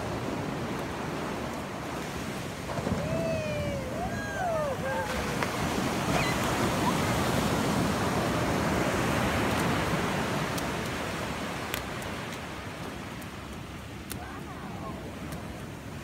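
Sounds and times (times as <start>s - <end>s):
ocean surf washing on sand: 0.0s - 16.0s.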